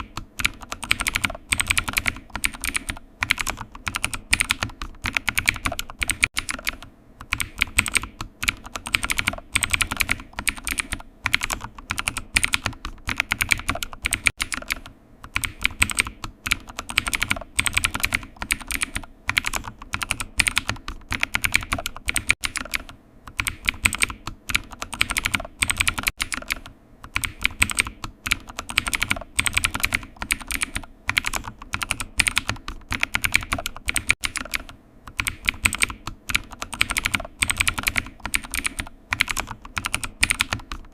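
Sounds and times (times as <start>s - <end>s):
typing on keyboard: 0.0s - 40.9s.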